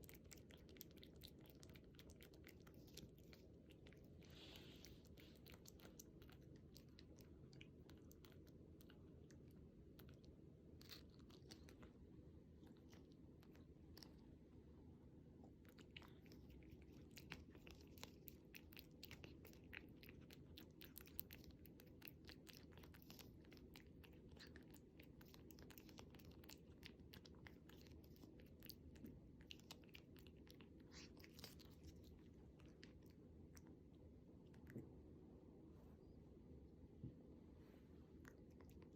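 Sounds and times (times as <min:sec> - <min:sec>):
cat chewing wet clicks: 0:00.0 - 0:14.3, 0:15.4 - 0:34.8.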